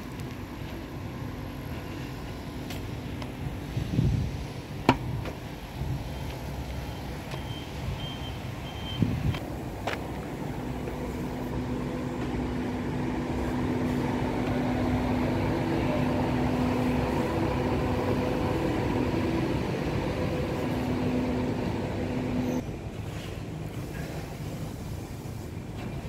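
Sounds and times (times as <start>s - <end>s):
mechanical hum with low drone: 0.0s - 26.0s.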